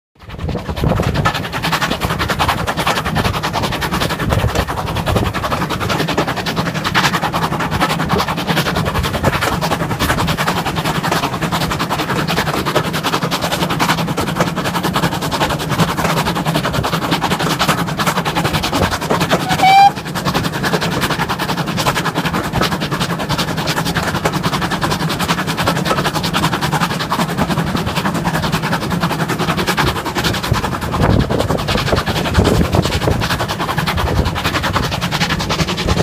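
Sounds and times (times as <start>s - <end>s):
low rumble of moving train: 0.2s - 36.0s
steam locomotive exhaust beats: 0.2s - 36.0s.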